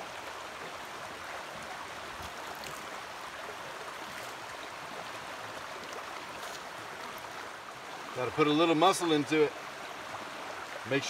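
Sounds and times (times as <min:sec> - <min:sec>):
creek flowing over stones: 0:00.0 - 0:11.0.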